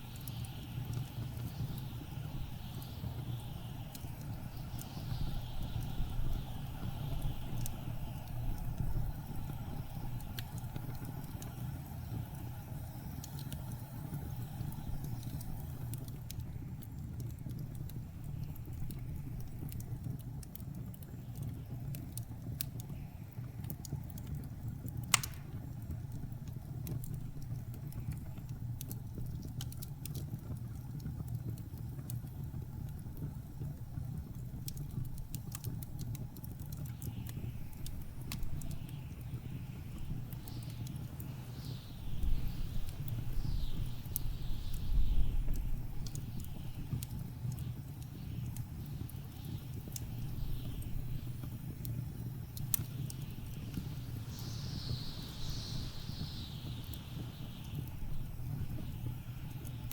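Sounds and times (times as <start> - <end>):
low rumble of blizzard wind: 0.0 - 59.9
wood fire crackling and popping: 0.0 - 59.9.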